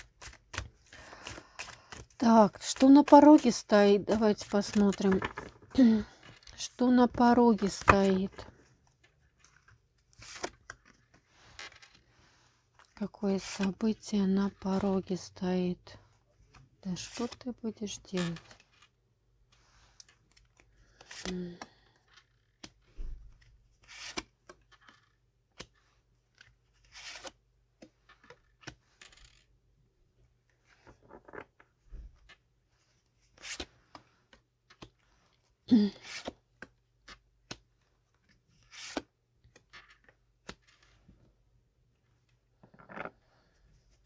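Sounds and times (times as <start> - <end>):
cards being shuffled: 0.0 - 15.1, 16.4 - 29.5, 30.4 - 41.2, 42.6 - 43.2.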